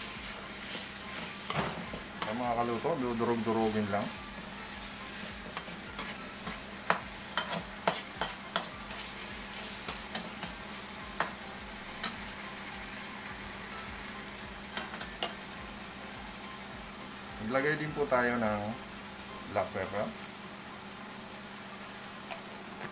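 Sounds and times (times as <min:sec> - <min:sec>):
frying sizzle: 0:00.0 - 0:22.9.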